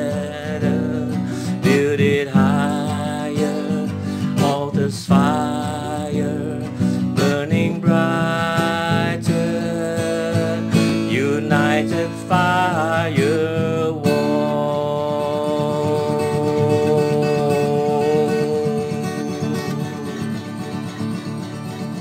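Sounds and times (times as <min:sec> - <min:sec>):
person singing: 0:00.0 - 0:21.2
strummed acoustic guitar: 0:00.0 - 0:22.0.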